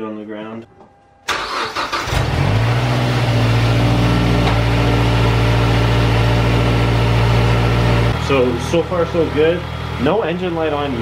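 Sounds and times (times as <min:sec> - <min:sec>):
car engine idling: 0:01.3 - 0:11.0.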